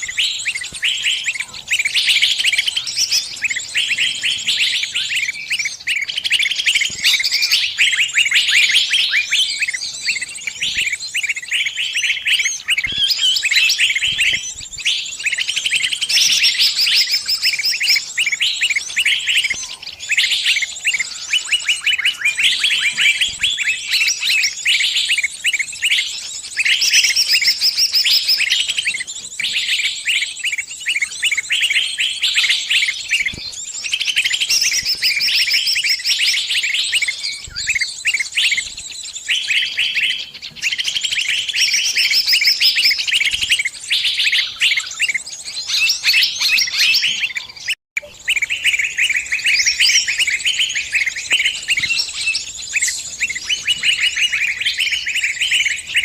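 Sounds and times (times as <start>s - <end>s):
songbird distress calls: 0.0s - 56.0s.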